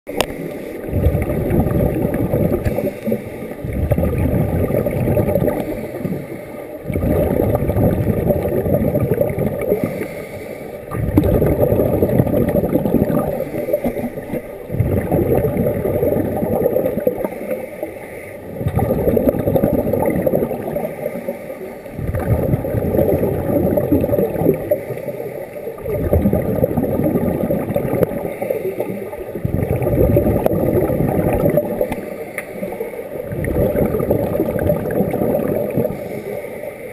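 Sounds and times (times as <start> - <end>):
underwater exhaled bubbles: 0.1 - 36.9.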